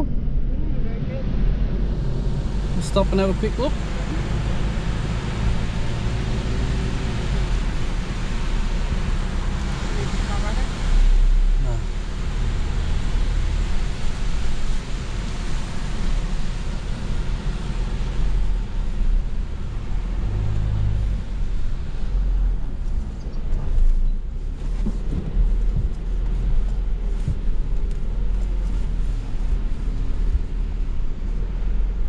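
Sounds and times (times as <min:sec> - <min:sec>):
engine and tyre rumble: 0:00.0 - 0:32.0.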